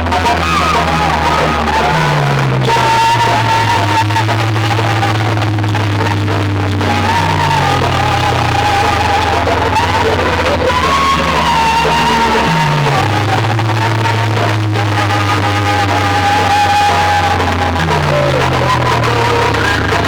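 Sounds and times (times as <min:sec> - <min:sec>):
held melody line: 0:00.0 - 0:20.0
loud bass-heavy music: 0:00.0 - 0:20.0.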